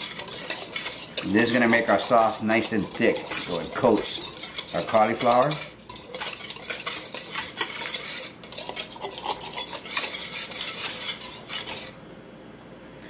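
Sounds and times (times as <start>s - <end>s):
whisk clinking in metal bowl: 0.0s - 12.0s.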